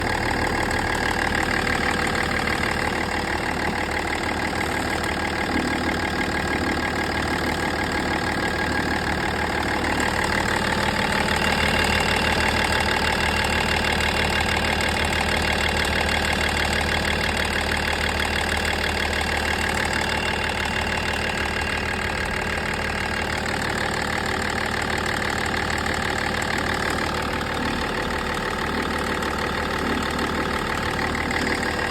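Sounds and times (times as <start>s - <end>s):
diesel engine idling: 0.0s - 31.9s
rapid engine ticking: 0.0s - 31.9s.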